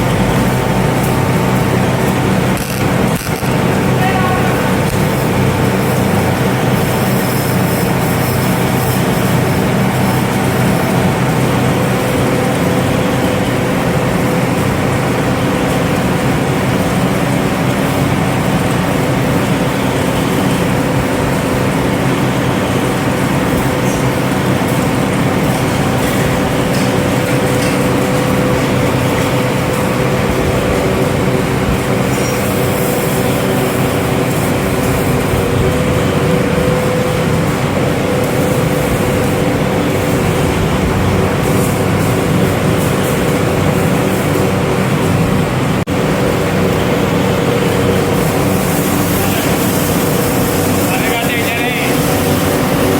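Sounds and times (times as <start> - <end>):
factory machinery drone: 0.0 - 52.9.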